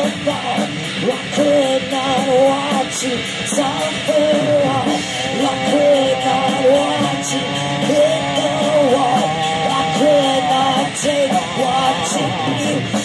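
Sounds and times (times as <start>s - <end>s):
heavy metal band playing: 0.0s - 13.0s.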